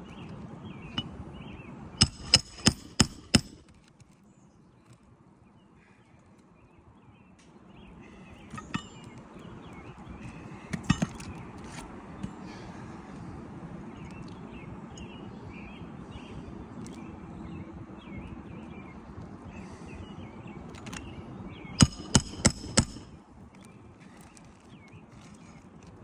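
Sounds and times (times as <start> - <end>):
birds chirping: 4.2 - 25.8.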